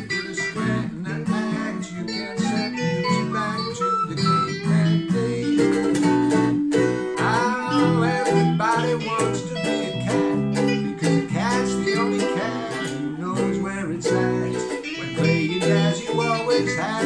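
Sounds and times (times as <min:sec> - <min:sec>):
acoustic guitar: 0:00.0 - 0:17.0
electric guitar lead line: 0:00.0 - 0:17.0
ukulele: 0:00.0 - 0:17.0.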